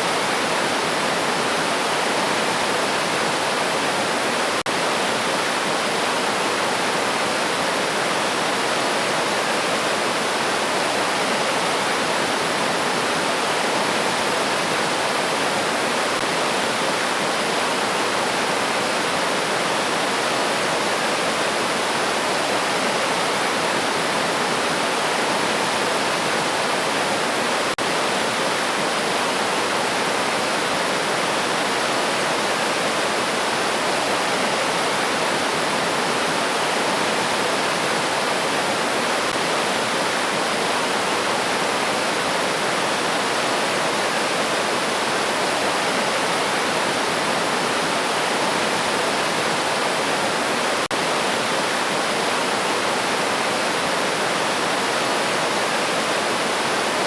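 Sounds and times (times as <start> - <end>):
river stream flowing: 0.0 - 57.0.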